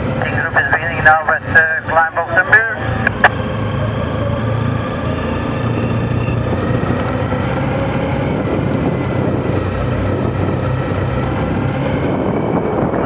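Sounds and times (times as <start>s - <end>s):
road noise over cobblestones: 0.0s - 13.0s.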